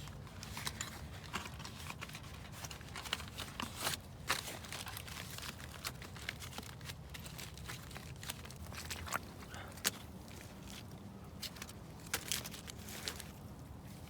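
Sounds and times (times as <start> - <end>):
crackling and crinkling: 0.0 - 14.0.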